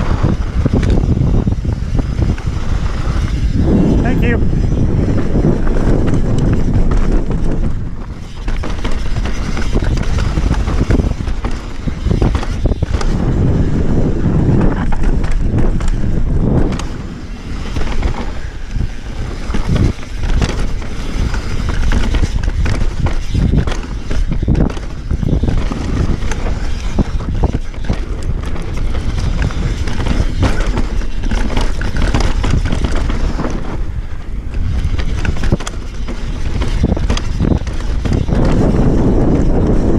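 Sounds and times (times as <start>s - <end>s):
bike knocking and clattering: 0.0s - 39.9s
tyres rolling over dirt and stones: 0.0s - 39.9s
wind buffeting microphone: 0.0s - 39.9s.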